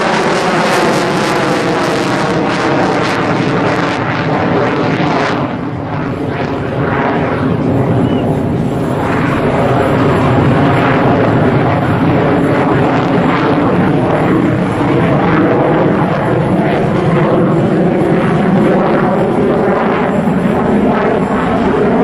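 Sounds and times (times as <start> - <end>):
loud jet engine roar: 0.0 - 22.0.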